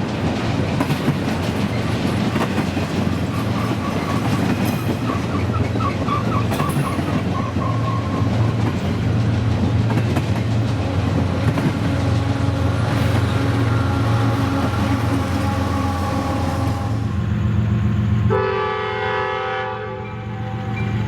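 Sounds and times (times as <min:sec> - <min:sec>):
wheels clacking over rails: 0:00.0 - 0:16.9
locomotive rumble: 0:00.0 - 0:21.0.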